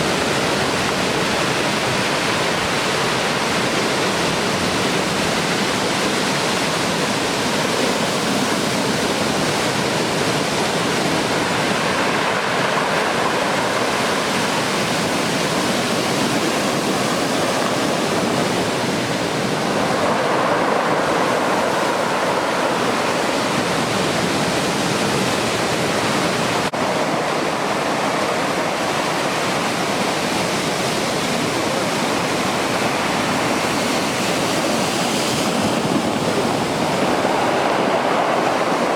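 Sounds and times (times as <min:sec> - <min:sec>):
heavy surf breaking on beach: 0:00.0 - 0:38.9.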